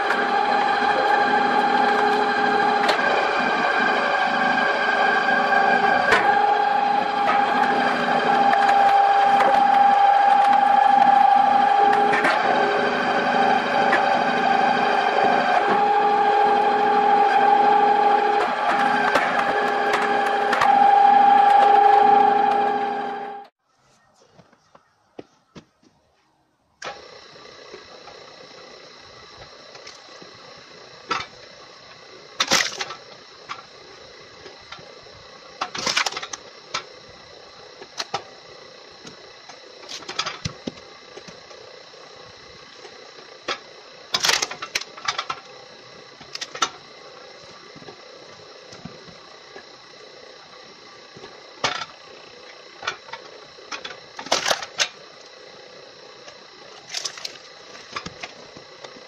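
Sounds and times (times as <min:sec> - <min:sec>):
log splitter machine hum: 0:00.0 - 0:23.5, 0:26.8 - 0:59.0.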